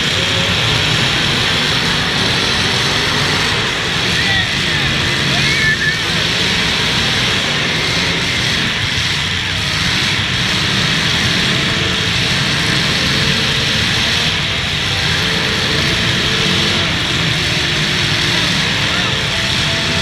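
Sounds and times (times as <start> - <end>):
car engines running: 0.0 - 20.0.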